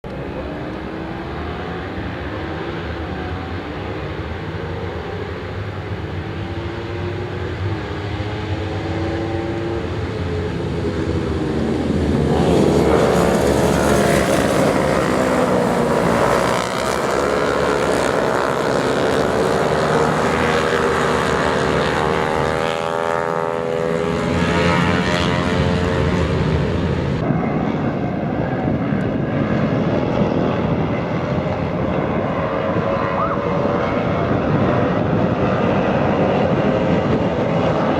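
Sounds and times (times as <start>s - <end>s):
racing motorcycle engines revving: 0.1s - 37.9s.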